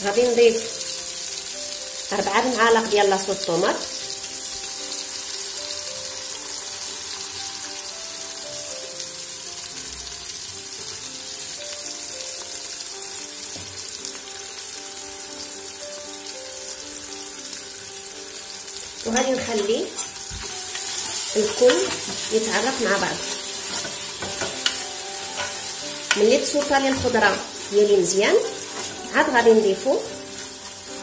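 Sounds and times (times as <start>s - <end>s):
background music: 0.0s - 31.0s
vegetables sizzling in hot oil: 0.0s - 31.0s.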